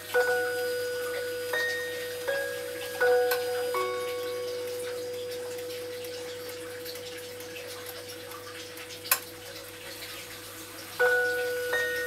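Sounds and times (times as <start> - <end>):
clock chime rod ringing: 0.0 - 8.9, 11.0 - 12.0
clock ticking: 0.0 - 10.1, 11.0 - 12.0.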